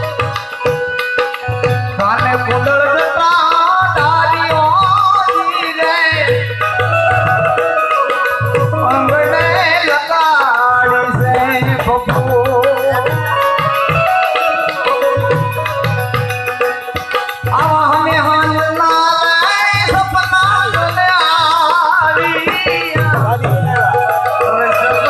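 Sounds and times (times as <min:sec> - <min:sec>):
drum rhythm: 0:00.0 - 0:25.0
melodic instrumental line: 0:00.0 - 0:25.0.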